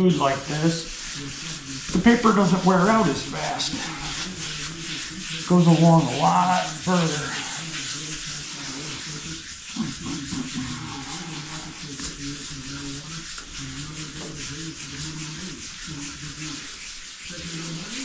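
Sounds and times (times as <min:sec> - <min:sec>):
wet sanding by hand: 0:00.0 - 0:18.0.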